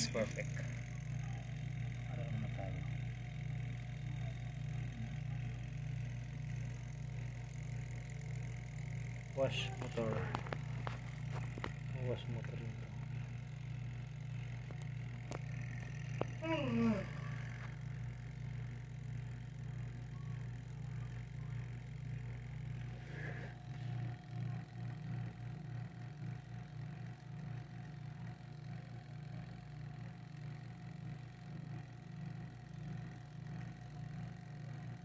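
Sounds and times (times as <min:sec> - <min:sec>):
washing machine motor humming: 0:00.0 - 0:35.0.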